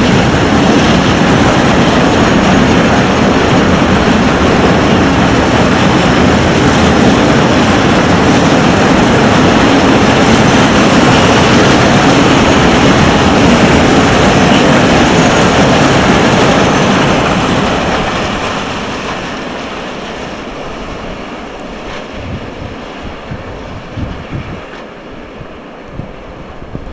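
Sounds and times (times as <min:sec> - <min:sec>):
freight train wheels on rails: 0:00.0 - 0:26.9
wind buffeting microphone: 0:00.0 - 0:26.9.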